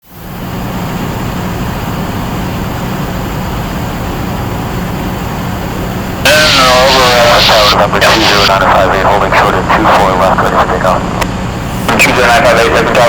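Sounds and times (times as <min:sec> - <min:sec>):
aircraft piston engine droning: 0:00.1 - 0:13.0.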